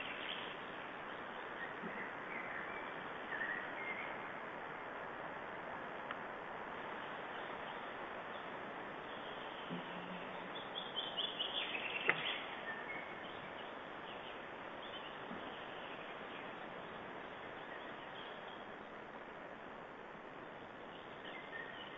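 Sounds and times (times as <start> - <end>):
forest background hiss: 0.0 - 21.9.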